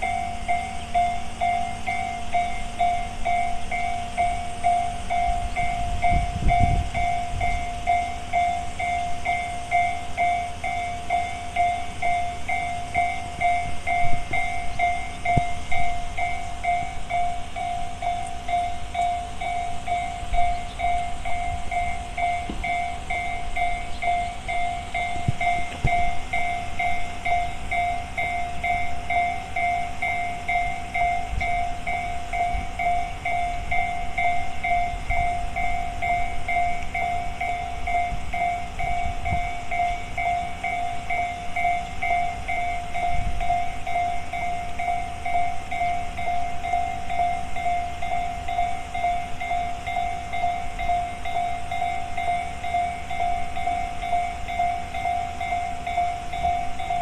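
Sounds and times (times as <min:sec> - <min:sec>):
electronic level crossing bell ringing: 0:00.0 - 0:57.0.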